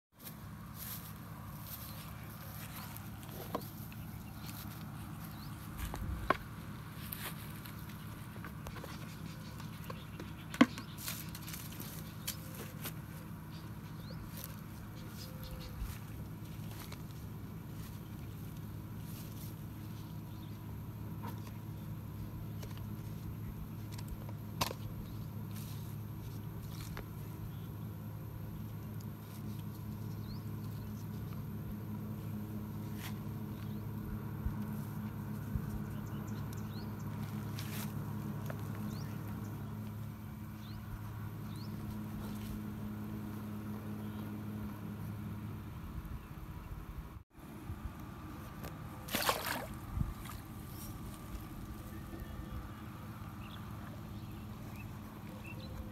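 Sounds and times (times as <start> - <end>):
low mechanical hum: 0.2 - 55.9.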